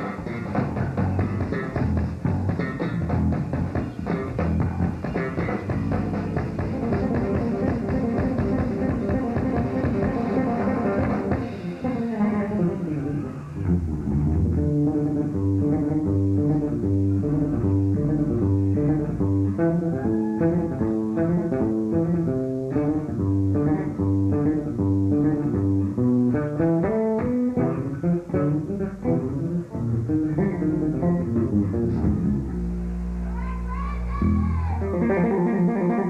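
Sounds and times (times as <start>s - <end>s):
electric bass guitar solo: 0.0s - 36.0s.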